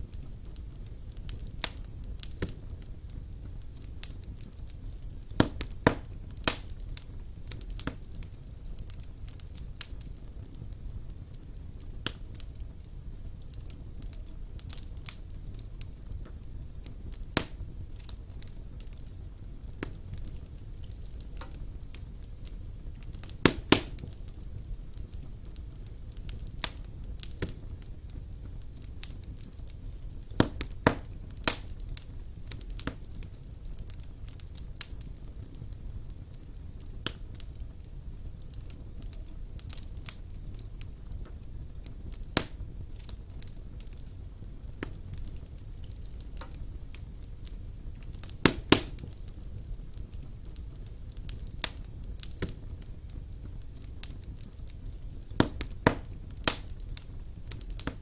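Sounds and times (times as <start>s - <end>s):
fire rumbling: 0.0s - 58.0s
logs crackling and popping: 0.0s - 58.0s.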